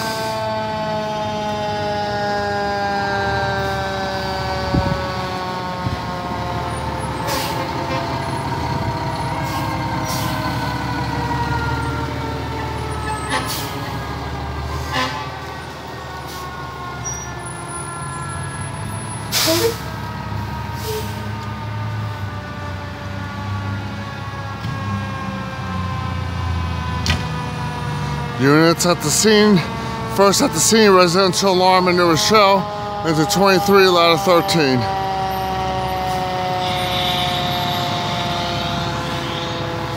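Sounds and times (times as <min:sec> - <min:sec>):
fire engine siren whining: 0:00.0 - 0:39.9
heavy truck engine rumble: 0:00.0 - 0:39.9.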